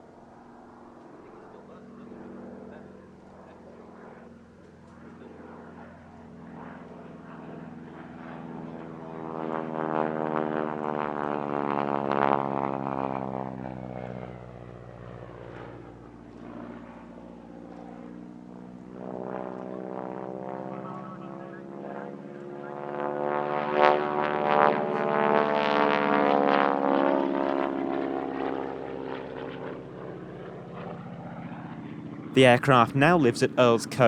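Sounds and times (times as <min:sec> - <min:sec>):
propeller plane engine droning: 0:00.0 - 0:31.7.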